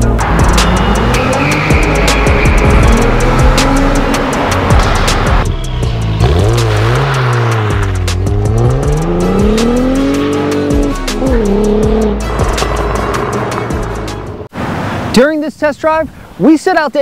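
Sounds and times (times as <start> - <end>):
background music with steady beat: 0.0 - 14.5
car engine revving: 0.0 - 14.5.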